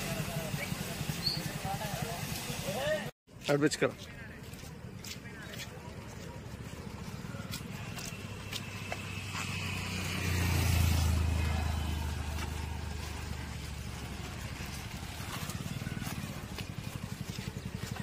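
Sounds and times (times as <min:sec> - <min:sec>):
motorcycle engine running: 0:00.0 - 0:03.1, 0:04.2 - 0:18.0.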